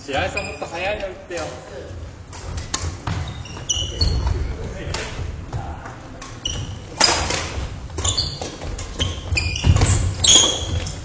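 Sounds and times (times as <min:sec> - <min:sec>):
sneakers squeaking on wooden floor: 0:00.2 - 0:11.0.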